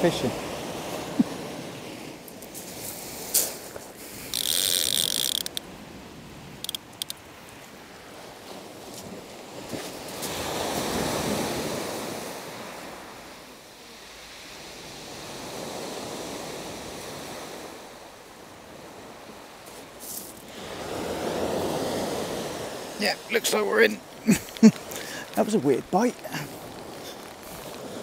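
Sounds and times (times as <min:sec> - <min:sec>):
waves washing up shingle beach: 0:00.0 - 0:28.0.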